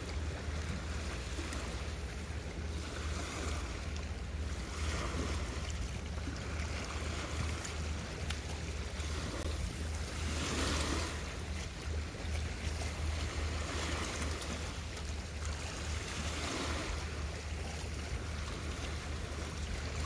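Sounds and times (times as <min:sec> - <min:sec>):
waves washing on shore: 0:00.0 - 0:20.0.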